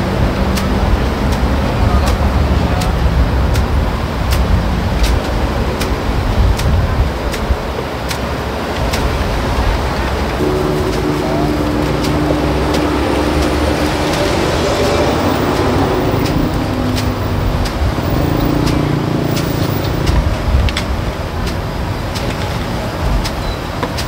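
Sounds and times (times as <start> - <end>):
engine hum: 0.0 - 24.0
motor traffic rumble: 0.0 - 24.0.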